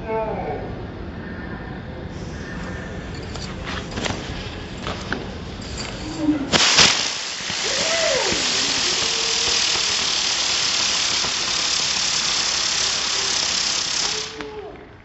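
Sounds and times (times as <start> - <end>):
firework hissing sparks: 2.2 - 14.7.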